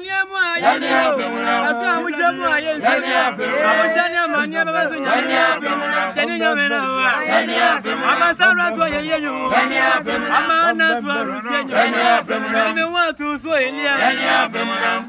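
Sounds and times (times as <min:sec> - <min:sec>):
group singing gospel chorus: 0:00.4 - 0:15.0.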